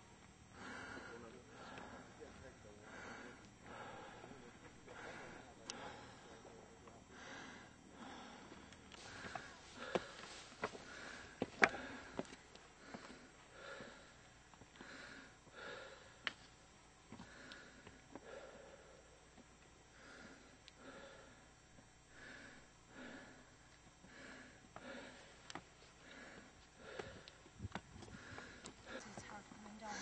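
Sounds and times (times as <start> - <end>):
heavy breathing: 0.5 - 16.5, 17.1 - 30.0.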